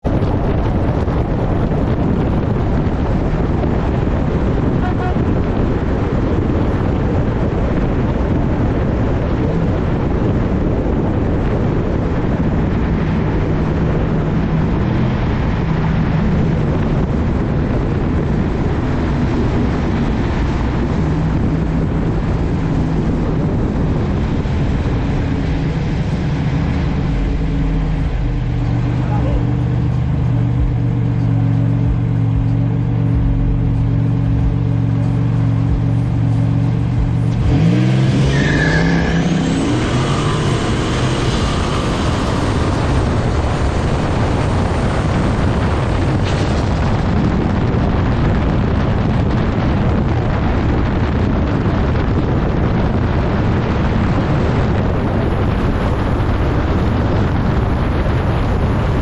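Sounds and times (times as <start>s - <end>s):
car engine and road noise: 0.0s - 59.0s
wind buffeting microphone: 0.0s - 59.0s.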